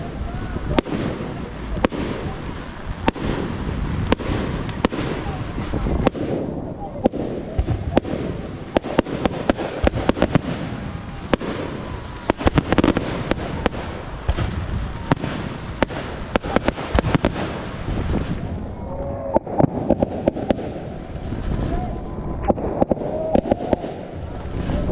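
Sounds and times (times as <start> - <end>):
fireworks bangs and crackling: 0.0 - 24.9
low rumble: 0.0 - 24.9.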